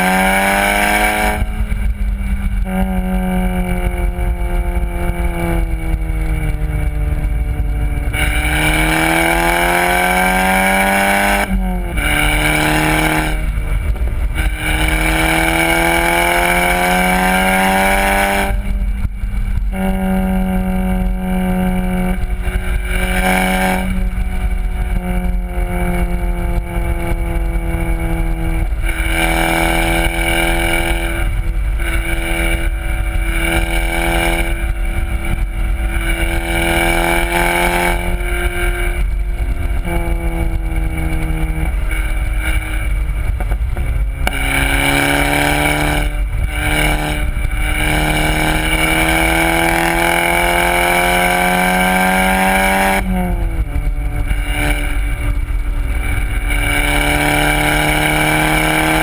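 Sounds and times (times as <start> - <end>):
car engine revving: 0.0 - 59.0
wind rumble on microphone: 0.0 - 59.0.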